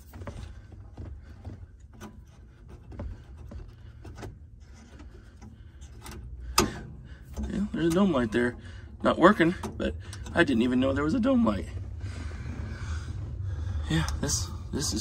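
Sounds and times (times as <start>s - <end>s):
low rumble in vehicle cab: 0.0s - 15.0s.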